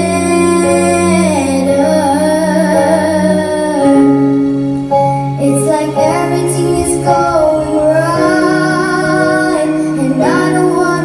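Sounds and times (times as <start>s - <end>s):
pop ballad backing track: 0.0s - 11.0s.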